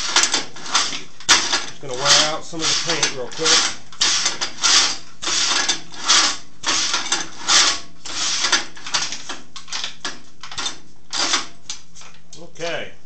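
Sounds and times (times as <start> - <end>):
metal tool rest scraping: 0.0 - 10.8.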